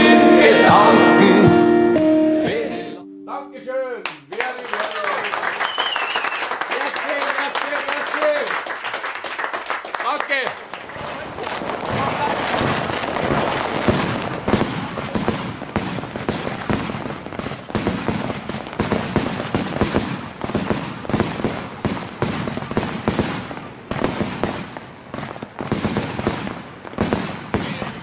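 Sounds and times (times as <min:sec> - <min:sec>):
fireworks bangs and crackles: 0:05.4 - 0:28.0.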